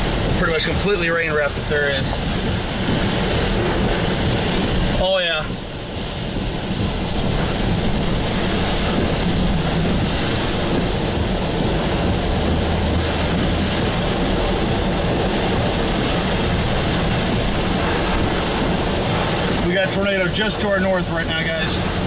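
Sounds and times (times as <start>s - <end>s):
car road noise: 0.0s - 22.0s
heavy rain and wind on car: 0.0s - 22.0s.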